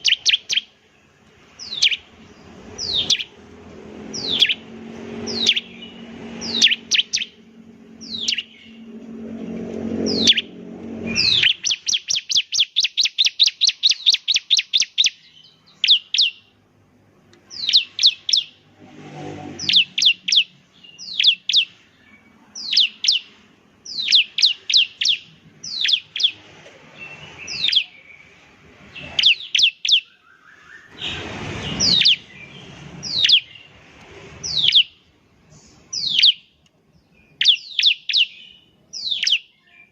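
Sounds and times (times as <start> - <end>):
bird singing sharp high notes: 0.0 - 16.6, 17.5 - 33.8, 34.4 - 35.1, 35.7 - 39.9.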